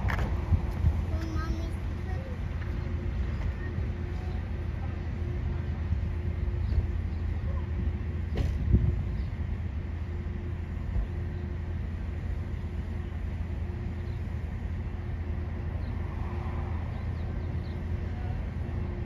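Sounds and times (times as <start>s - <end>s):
distant train rumble: 0.0s - 19.0s.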